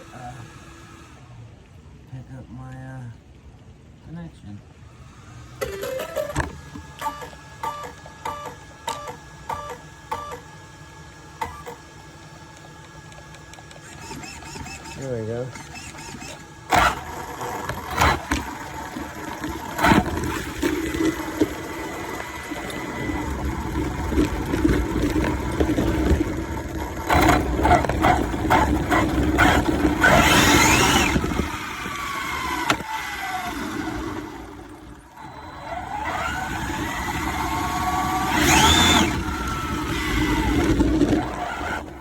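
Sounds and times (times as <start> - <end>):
rc car electric motor whining: 0.0 - 1.3, 4.9 - 42.0.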